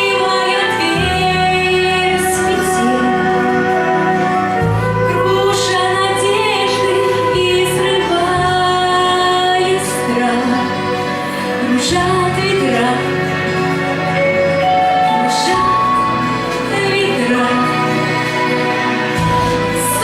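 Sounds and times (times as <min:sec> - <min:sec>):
bass notes: 0:00.0 - 0:20.0
instrumental backing: 0:00.0 - 0:20.0
woman singing a pop ballad: 0:00.0 - 0:20.0.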